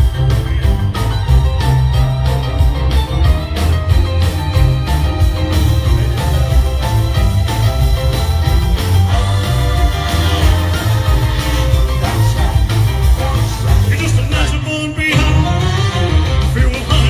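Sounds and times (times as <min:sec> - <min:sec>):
rock and roll band music: 0:00.0 - 0:17.0.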